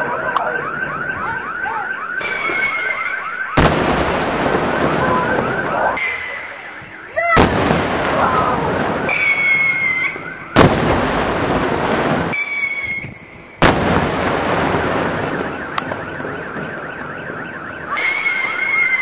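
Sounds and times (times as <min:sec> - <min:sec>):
fireworks bangs with rolling echo: 0:00.0 - 0:19.0.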